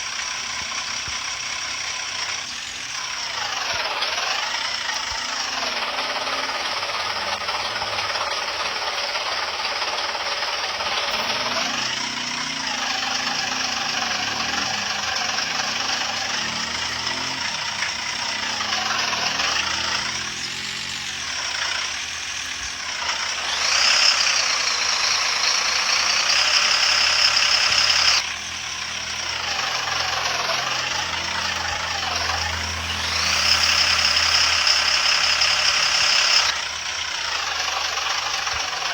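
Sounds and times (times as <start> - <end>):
cartoon engine revving: 0.0 - 38.9
hissing engine sound: 0.0 - 38.9.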